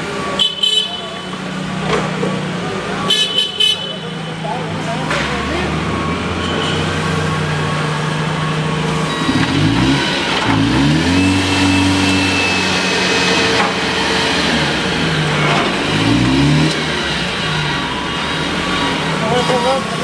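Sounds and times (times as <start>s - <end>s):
forklift engine revving: 1.2s - 20.0s.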